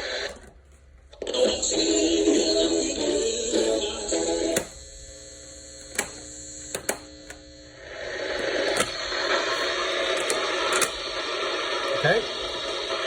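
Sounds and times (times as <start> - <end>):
music from radio: 0.0 - 13.0
static hiss from speaker: 0.0 - 13.0
steady electrical hum: 0.0 - 13.0.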